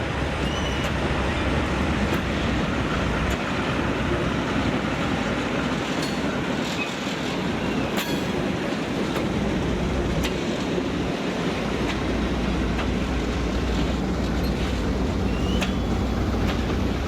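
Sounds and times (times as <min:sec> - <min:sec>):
freight train wheels rumbling: 0:00.0 - 0:17.0
sharp clicks of train wheels: 0:00.0 - 0:17.0.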